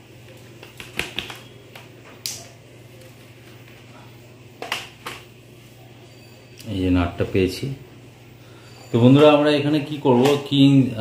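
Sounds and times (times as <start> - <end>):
steady low hum: 1.4 - 11.0.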